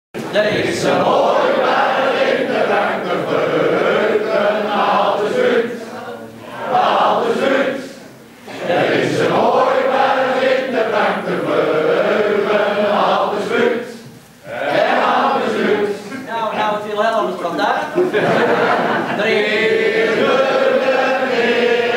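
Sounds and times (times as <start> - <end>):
group of people singing: 0.2 - 16.3, 18.0 - 21.9.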